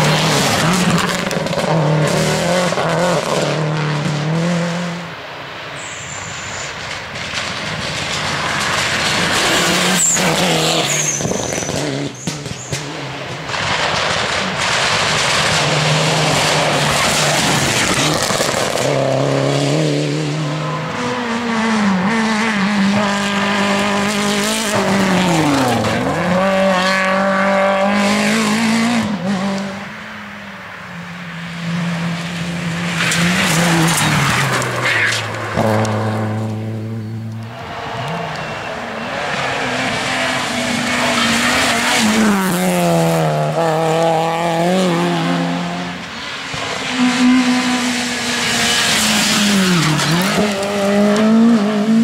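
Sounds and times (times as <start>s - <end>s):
rally cars revving past: 0.0s - 5.4s, 7.3s - 30.1s, 31.3s - 52.0s.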